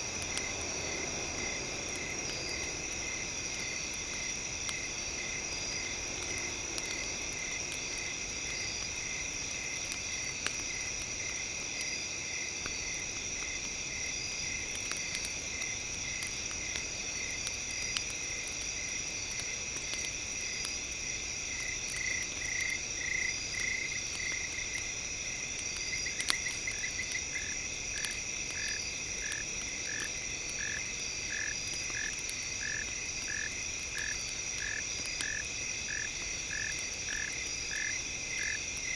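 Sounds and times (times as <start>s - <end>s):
campfire crackles: 0.0s - 38.9s
insects trilling: 0.0s - 38.9s.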